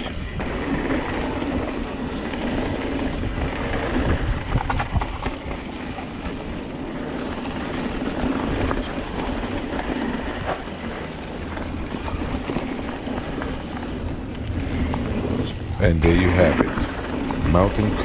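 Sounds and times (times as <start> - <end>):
bike rattling: 0.0 - 18.0
bike tyres on dirt and rocks: 0.0 - 18.0
wind on microphone: 0.0 - 18.0.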